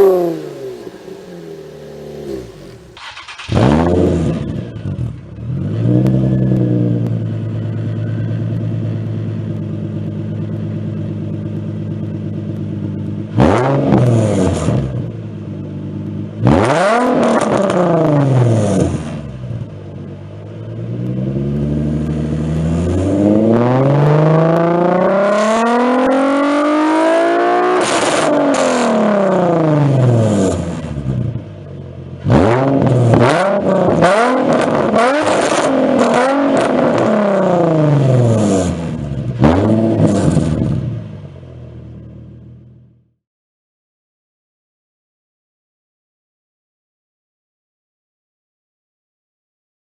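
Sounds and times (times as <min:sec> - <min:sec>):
car engine idling and revving: 0:00.0 - 0:43.2.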